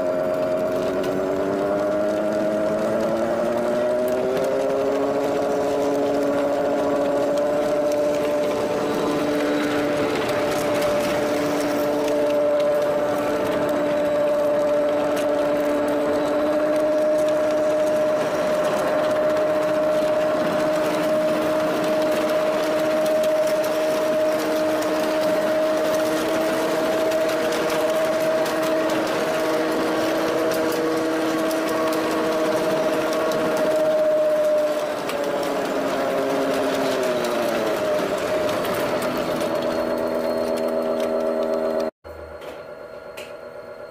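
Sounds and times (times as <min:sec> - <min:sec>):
steel wheels rattling: 0:00.0 - 0:42.6
mini train mechanical whine: 0:00.0 - 0:43.9.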